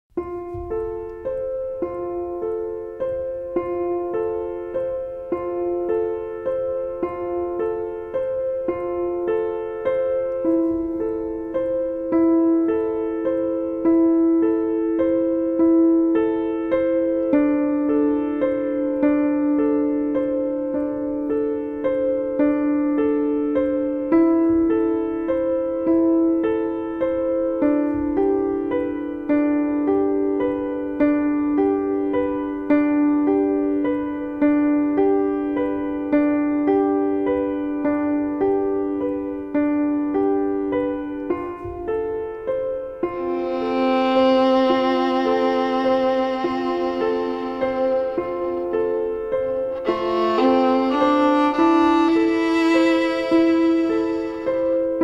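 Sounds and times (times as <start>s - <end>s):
piano notes repeating figure: 0.1s - 55.0s.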